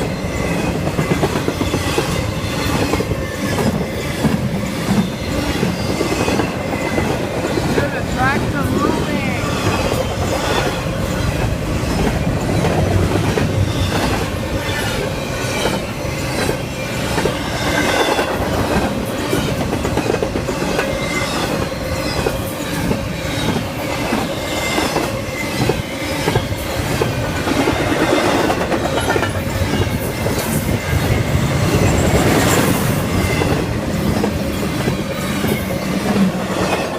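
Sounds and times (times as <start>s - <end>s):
freight train rumbling past: 0.0s - 36.9s
wheels clacking over rail joints: 0.0s - 36.9s.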